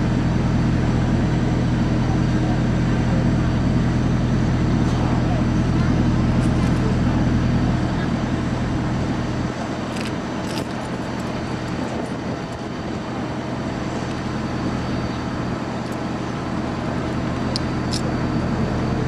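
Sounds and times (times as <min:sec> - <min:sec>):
road traffic background noise: 0:00.0 - 0:19.0.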